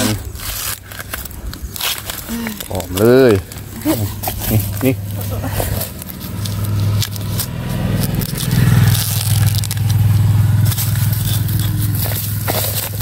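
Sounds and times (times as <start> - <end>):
dry leaf litter crackling: 0.0 - 13.0
engine droning: 2.4 - 13.0.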